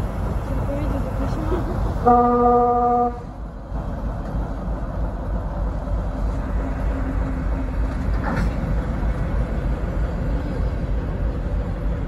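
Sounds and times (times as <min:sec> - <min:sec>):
rail wagons rolling on track: 0:00.0 - 0:12.0.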